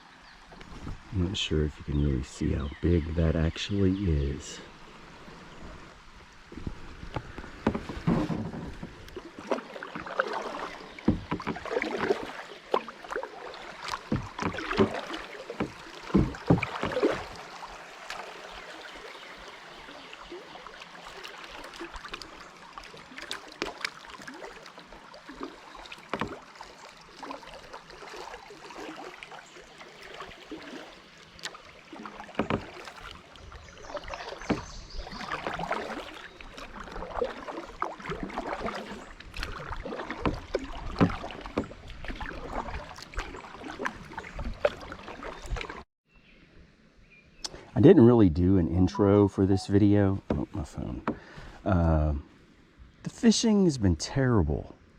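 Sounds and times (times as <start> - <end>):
paddle splashes: 0.0 - 45.9, 47.4 - 53.6.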